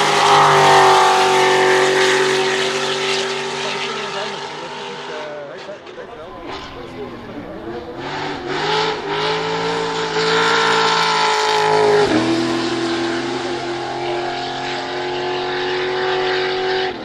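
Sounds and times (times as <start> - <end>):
buggy engine at full throttle: 0.0 - 17.0.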